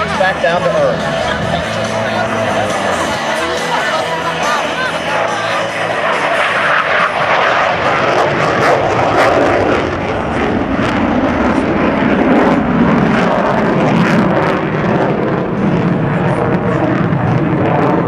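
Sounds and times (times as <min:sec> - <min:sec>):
fighter jet passing: 0:00.0 - 0:18.0.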